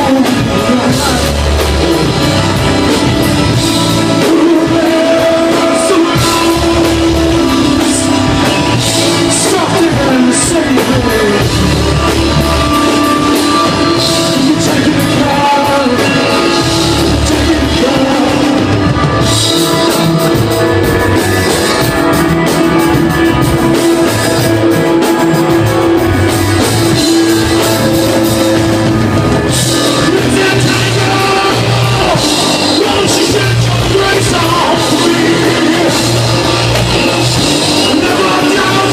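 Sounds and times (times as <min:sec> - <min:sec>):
bass guitar: 0:00.0 - 0:38.9
drum kit: 0:00.0 - 0:38.9
electric guitar lines: 0:00.0 - 0:38.9.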